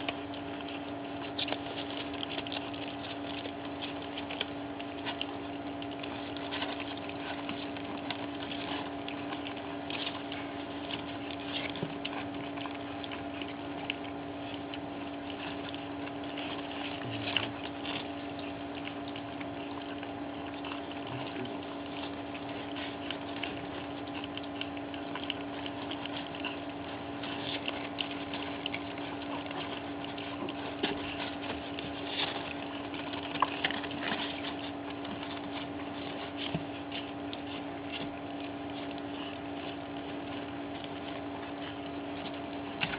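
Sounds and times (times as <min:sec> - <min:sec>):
puppies lapping food: 0:00.0 - 0:42.9
steady low hum: 0:00.0 - 0:42.9.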